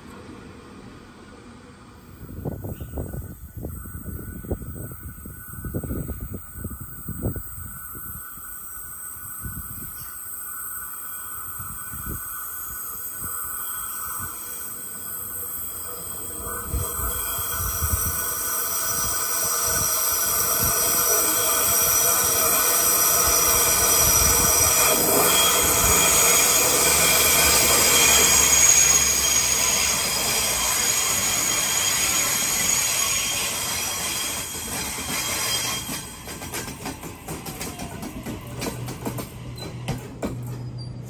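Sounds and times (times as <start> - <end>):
train running rumble: 0.0 - 41.0
train wheels screeching: 2.2 - 41.0.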